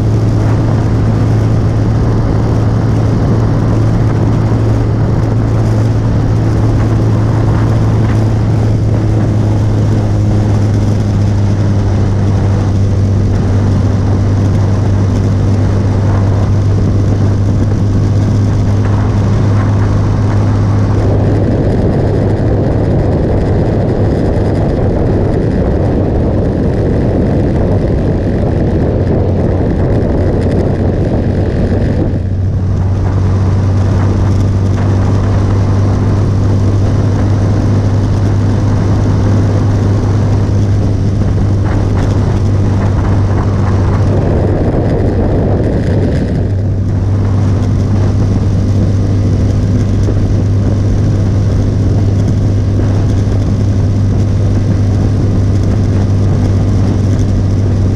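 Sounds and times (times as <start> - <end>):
motorcycle engine cruising: 0.0 - 57.9
wind rushing over microphone: 0.0 - 57.9.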